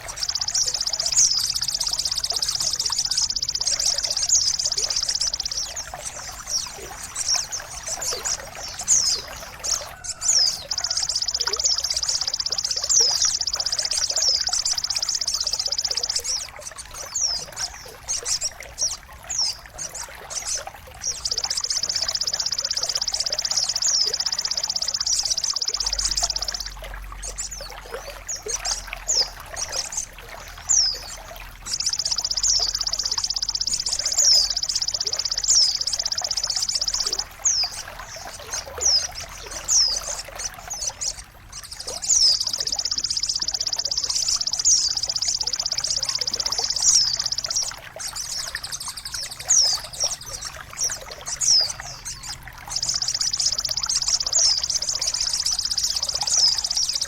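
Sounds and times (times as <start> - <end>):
bird chirps: 0.0 - 57.0
high steady bird trill: 0.0 - 57.0
trickling water: 0.0 - 57.0.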